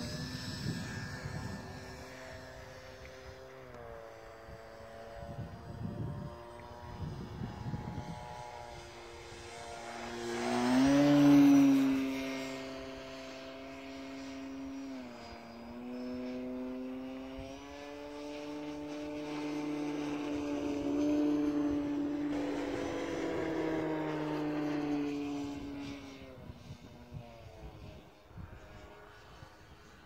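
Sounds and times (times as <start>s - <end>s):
model airplane propeller whine: 0.0s - 30.0s.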